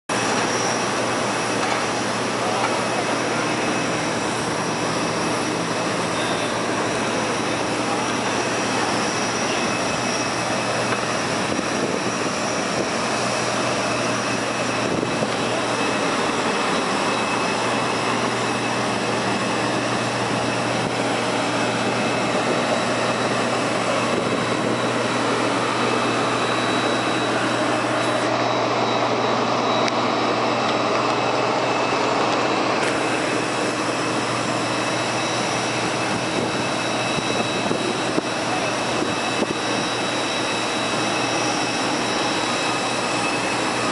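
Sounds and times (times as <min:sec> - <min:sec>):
high turbine whine: 0:00.1 - 0:43.9
jet engine roar: 0:00.1 - 0:43.9.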